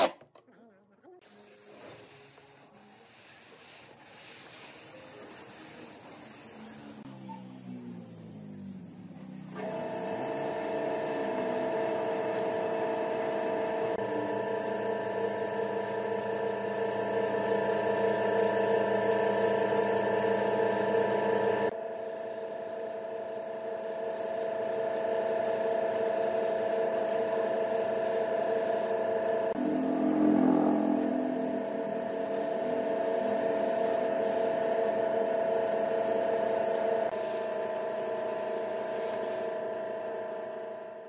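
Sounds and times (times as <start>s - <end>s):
air spray gun hissing: 1.2s - 39.6s
steady mechanical hum: 4.9s - 41.0s.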